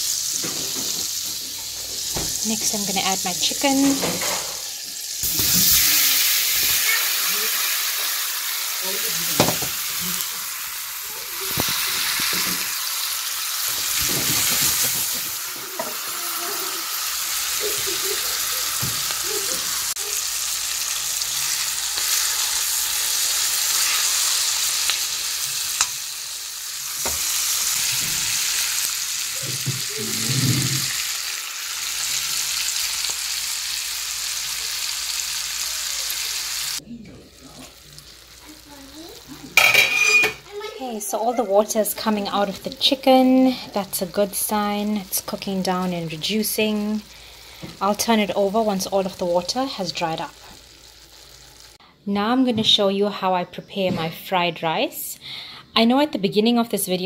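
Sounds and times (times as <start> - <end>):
chicken sizzling in a pan: 0.0 - 51.8.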